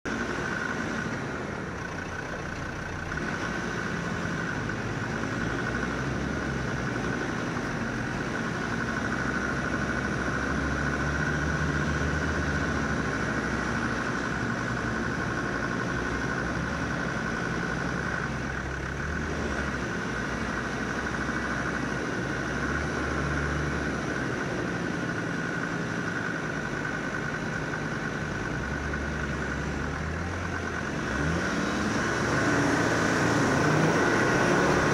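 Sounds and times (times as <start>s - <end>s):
high engine whine: 0.0s - 34.9s
diesel engine idling low revs: 0.1s - 34.9s.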